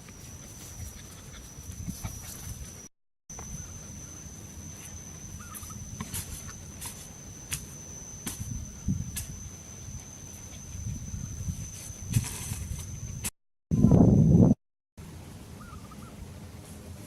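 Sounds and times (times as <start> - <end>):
high-pitched insect drone: 0.0 - 14.5.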